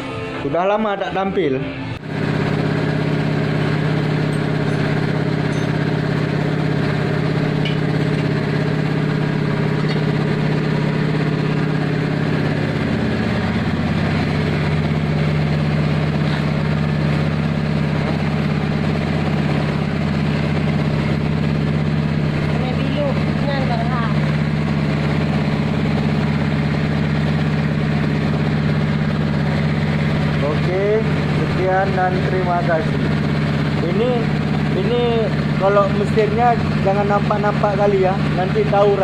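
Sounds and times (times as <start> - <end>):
engine idling: 2.0 - 39.0.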